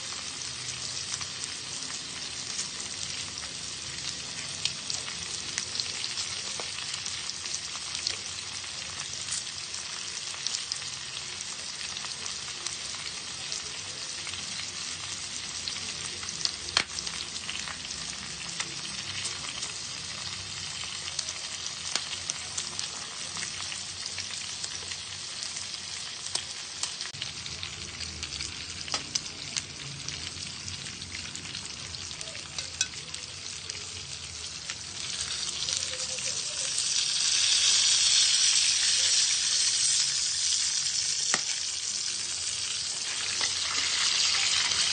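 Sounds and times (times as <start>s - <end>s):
meat sizzling on a grill: 0.0s - 44.9s.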